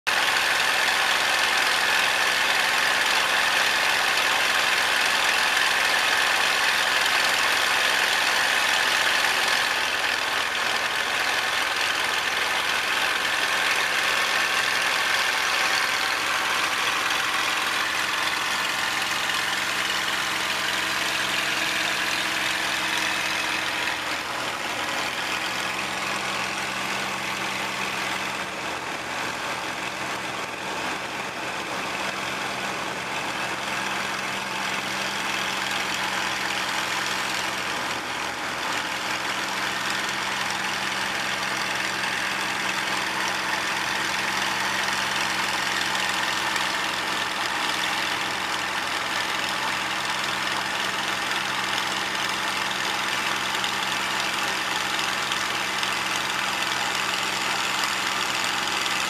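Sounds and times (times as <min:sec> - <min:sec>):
propeller plane engine droning: 0:00.2 - 0:55.3.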